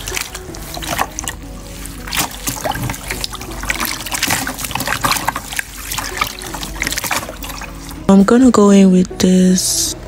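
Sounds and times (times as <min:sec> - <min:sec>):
wet splashes and drips: 0:00.0 - 0:08.2
soapy water sloshing and squelching: 0:00.0 - 0:08.4.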